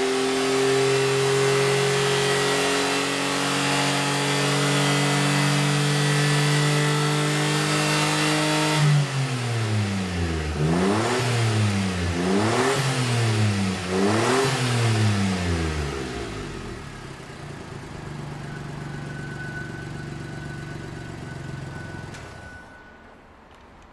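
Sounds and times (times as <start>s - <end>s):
car engine revving and idling: 0.0s - 22.9s.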